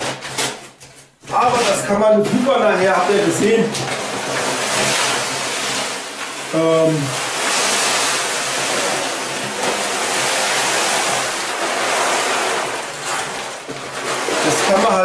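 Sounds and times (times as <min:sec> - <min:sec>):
cat litter pouring into tray: 0:01.3 - 0:15.0.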